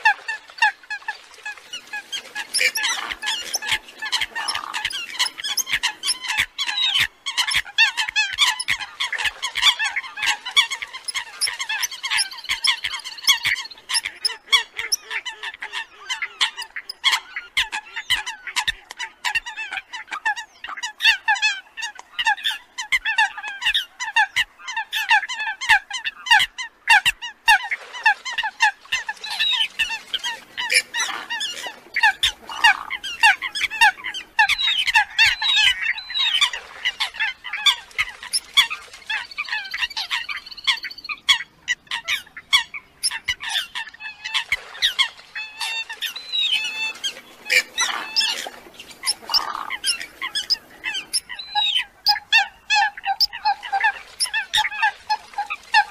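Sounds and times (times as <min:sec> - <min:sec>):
coots calling in a chorus: 0:00.0 - 0:55.9.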